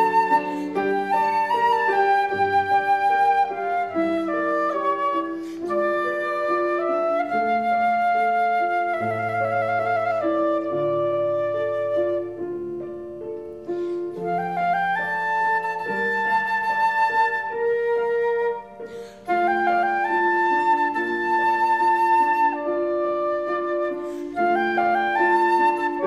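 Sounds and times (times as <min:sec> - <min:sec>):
flute melody: 0:00.0 - 0:26.0
grand piano: 0:00.0 - 0:26.0.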